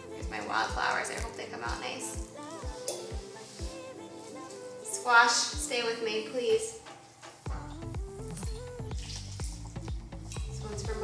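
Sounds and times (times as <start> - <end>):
pop music with kick drum beat: 0.0 - 5.7, 6.8 - 11.0.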